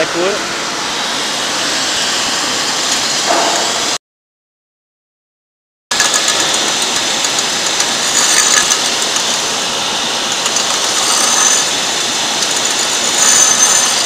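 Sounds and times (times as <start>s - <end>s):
grinding machine hissing: 0.0s - 4.0s, 5.9s - 14.0s.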